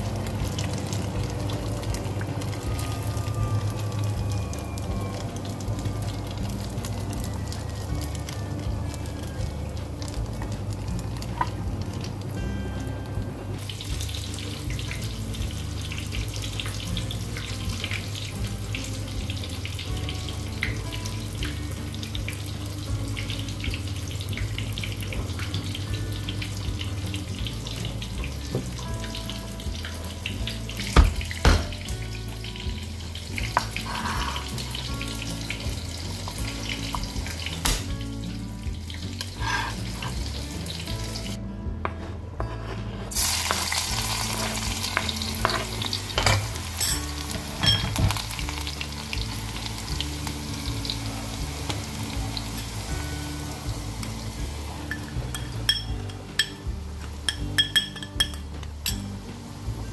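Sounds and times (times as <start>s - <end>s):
background music with bass line: 0.0s - 59.9s.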